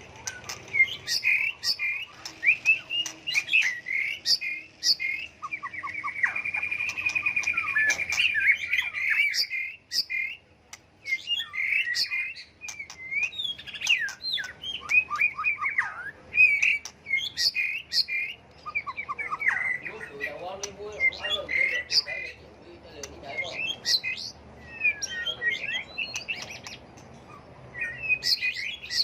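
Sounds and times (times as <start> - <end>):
songbird whistles and trills: 0.0 - 22.4, 23.3 - 29.0.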